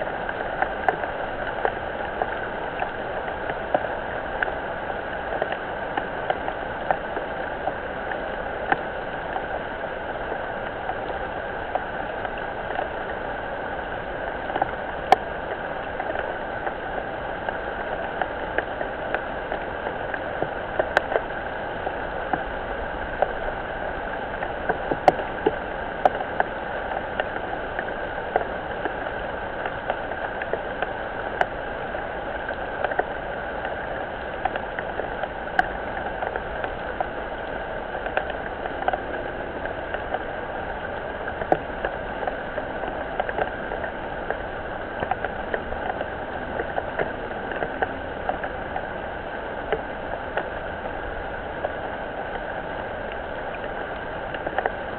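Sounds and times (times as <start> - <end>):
rain falling on a pond: 0.0 - 54.9.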